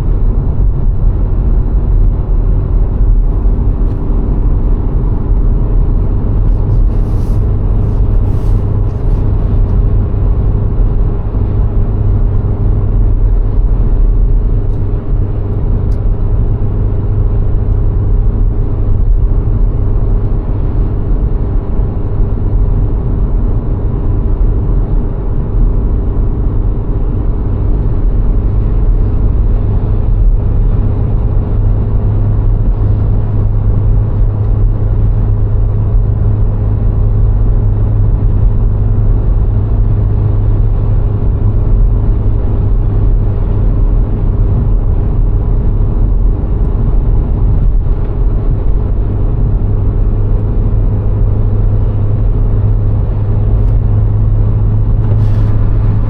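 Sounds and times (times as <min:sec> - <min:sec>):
car engine and tyre road noise: 0:00.0 - 0:56.0.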